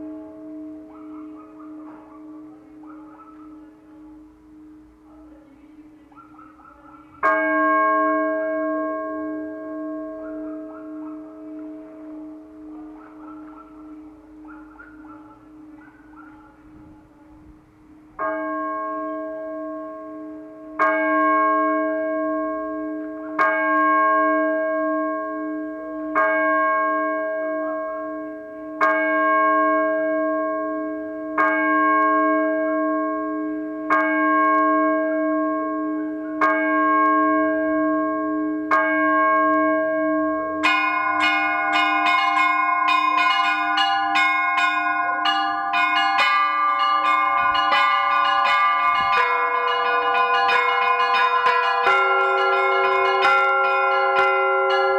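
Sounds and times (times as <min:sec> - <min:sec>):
smaller bells pealing: 0:00.0 - 0:17.2, 0:17.9 - 0:54.9
church bell tolling: 0:00.0 - 0:54.9.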